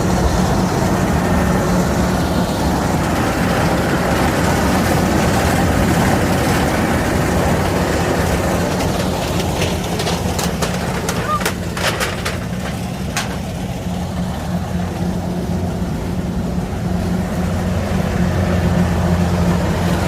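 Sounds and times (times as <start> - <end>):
harvester engine humming: 0.0 - 20.0.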